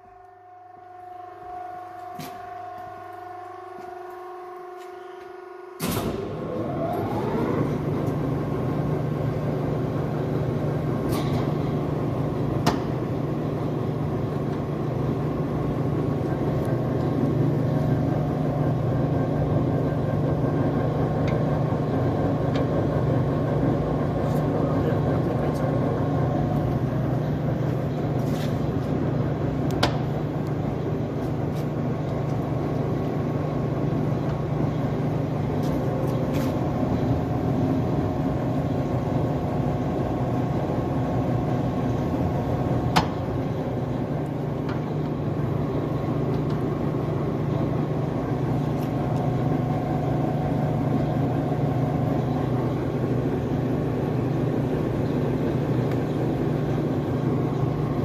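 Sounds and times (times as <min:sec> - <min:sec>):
faint gear whine: 0:00.0 - 0:58.0
lathe machine hum: 0:00.0 - 0:58.0.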